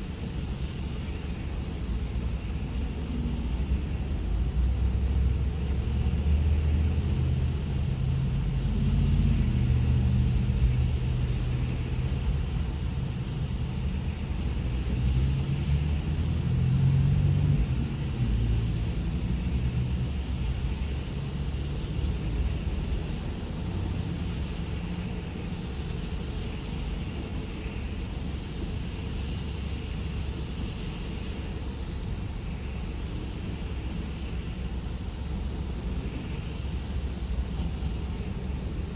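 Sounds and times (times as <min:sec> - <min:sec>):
car engine rumble inside cabin: 0:00.0 - 0:38.9.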